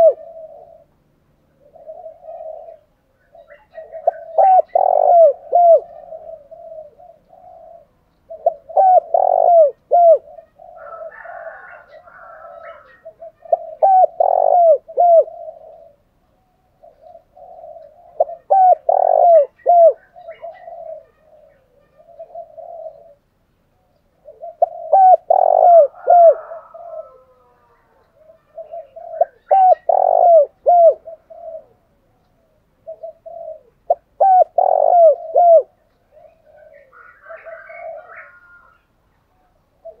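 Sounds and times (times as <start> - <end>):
doves cooing: 0.0 - 40.0.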